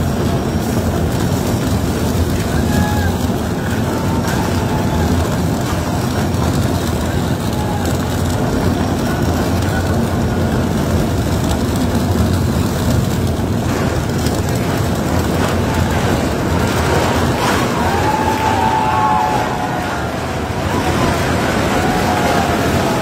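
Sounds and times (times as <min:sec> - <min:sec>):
heavy machinery rumbling: 0:00.0 - 0:23.0.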